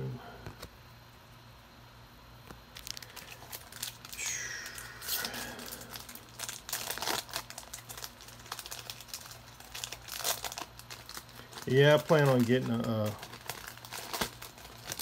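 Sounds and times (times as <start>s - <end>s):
foil wrapper crinkling: 2.7s - 15.0s.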